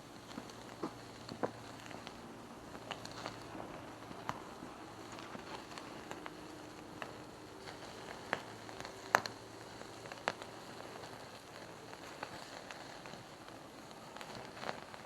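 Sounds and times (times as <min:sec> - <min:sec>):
campfire crackling and popping: 0:00.0 - 0:15.0
steady hiss: 0:00.0 - 0:15.0.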